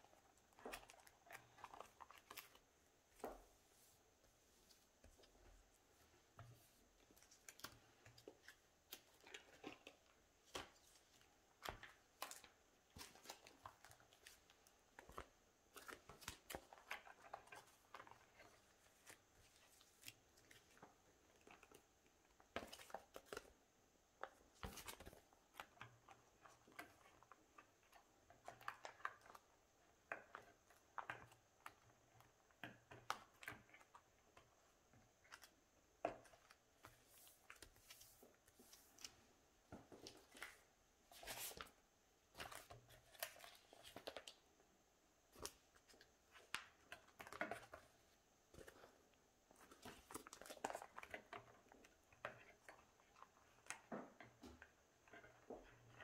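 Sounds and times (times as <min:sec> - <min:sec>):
plastic sleeves rustling: 0:00.0 - 0:56.0.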